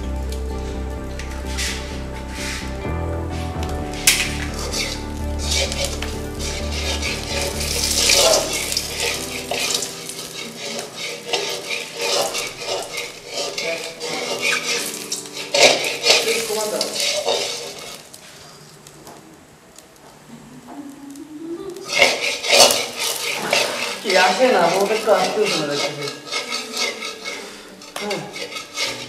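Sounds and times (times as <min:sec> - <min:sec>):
metal ladle scraping in wok: 0:01.5 - 0:18.6, 0:21.8 - 0:29.0.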